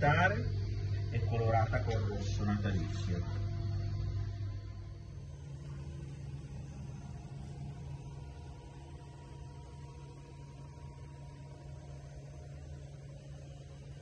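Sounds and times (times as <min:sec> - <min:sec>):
faint sustained tones: 0:00.0 - 0:14.0
steady low hum: 0:00.0 - 0:14.0.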